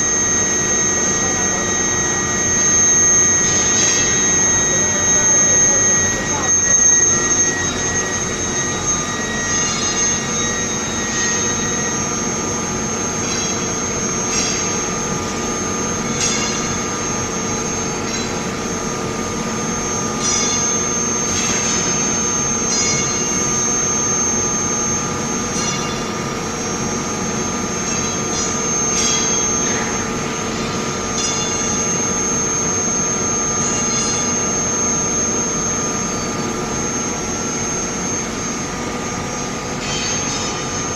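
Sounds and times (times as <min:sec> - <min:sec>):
machine hum with high whine: 0:00.0 - 0:40.9.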